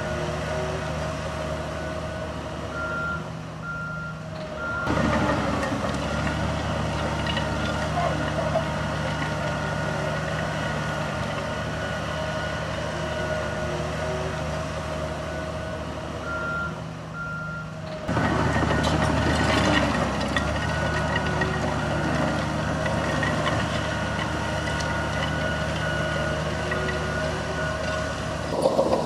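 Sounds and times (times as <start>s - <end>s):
reversing alarm: 0.0s - 5.0s, 7.4s - 29.0s
diesel machinery running: 0.0s - 29.0s.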